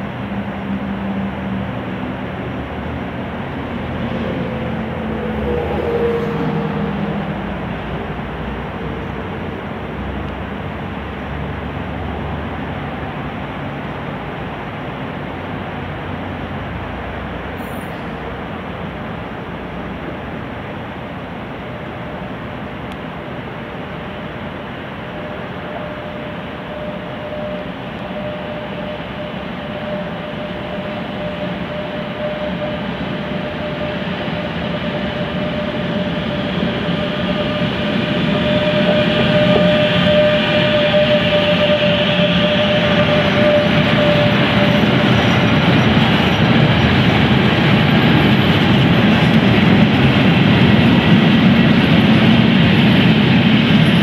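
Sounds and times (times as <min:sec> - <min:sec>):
freight wagons rumbling on rails: 0:00.0 - 0:54.0
locomotive whine: 0:00.0 - 0:54.0.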